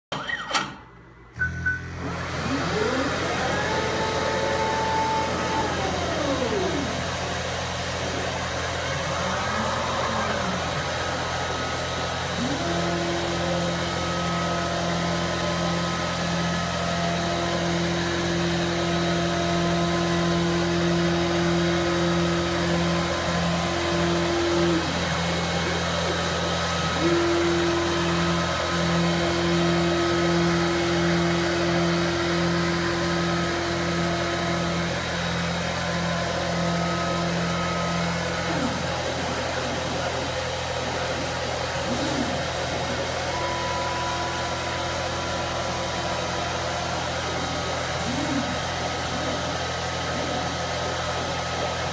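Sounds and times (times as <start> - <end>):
machine hum: 1.0 - 51.9
drive motors whining: 1.3 - 51.9.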